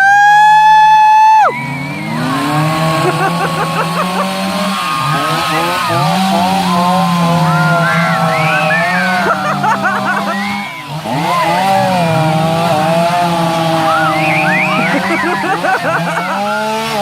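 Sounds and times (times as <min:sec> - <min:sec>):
chainsaw engine revving: 0:01.5 - 0:17.0.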